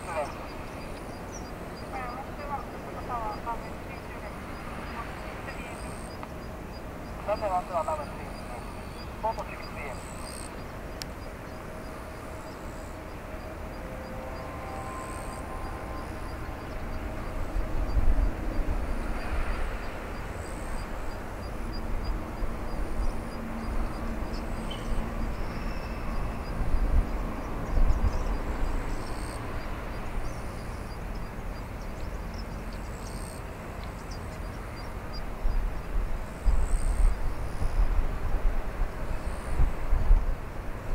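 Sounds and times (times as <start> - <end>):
airplane taxiing rumble: 0.0 - 40.9.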